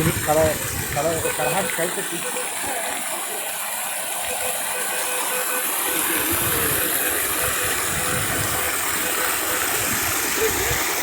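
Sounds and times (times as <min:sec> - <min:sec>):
water rushing at waterfall: 0:00.0 - 0:11.0.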